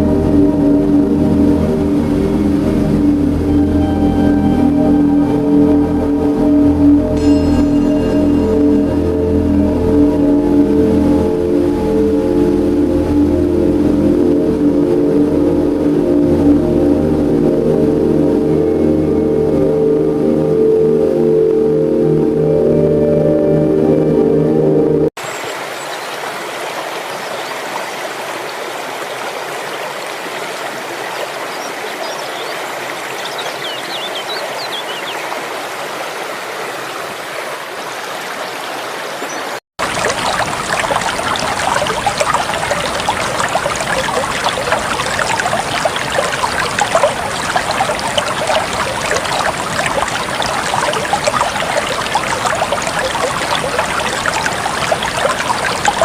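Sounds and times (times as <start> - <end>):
stream water rushing: 0.0 - 22.6, 25.2 - 56.0.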